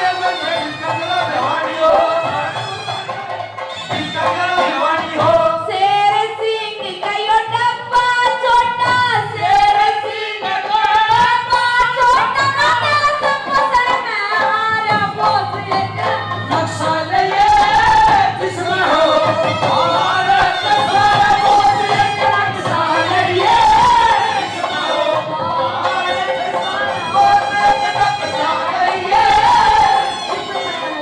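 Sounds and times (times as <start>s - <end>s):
woman singing through microphone: 4.2s - 31.0s.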